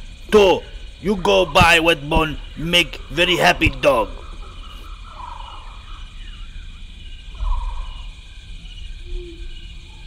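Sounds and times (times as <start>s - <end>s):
insect drone: 0.0s - 10.0s
short insect chirps: 0.0s - 10.0s.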